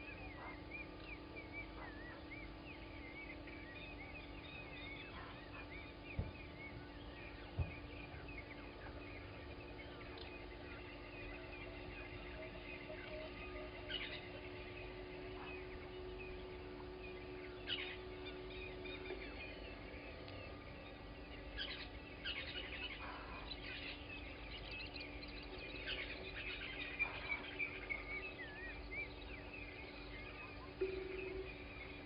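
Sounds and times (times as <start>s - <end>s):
birds chirping and calling: 0.0s - 32.0s
faint low hum: 0.0s - 32.0s.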